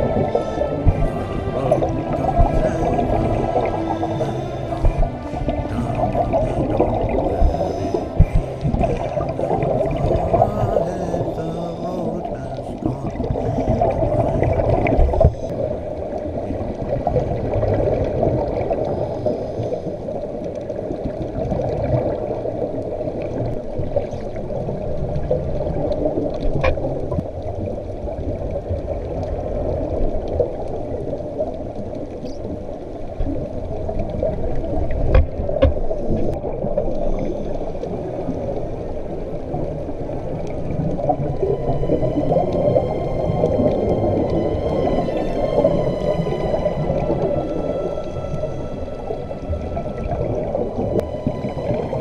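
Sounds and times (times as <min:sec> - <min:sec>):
gurgling regulator bubbles: 0:00.0 - 0:52.0
watery underwater rumble: 0:00.0 - 0:52.0.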